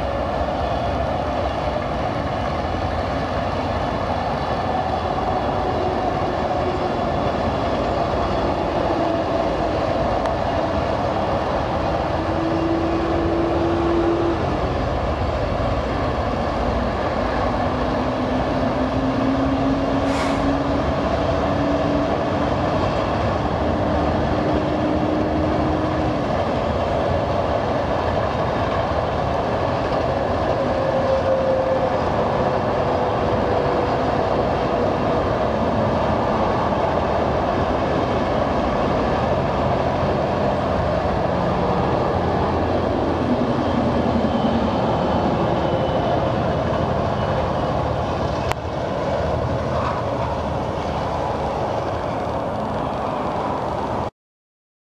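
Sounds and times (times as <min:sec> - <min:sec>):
freight train wheels rumbling on rails: 0:00.0 - 0:54.1.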